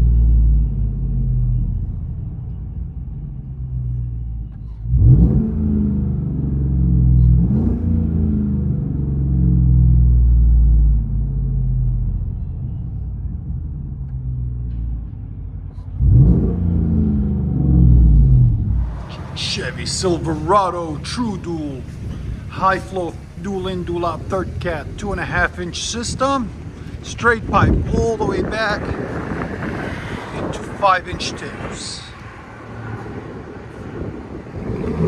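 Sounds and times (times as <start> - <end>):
truck engine idling and revving: 0.0 - 35.0.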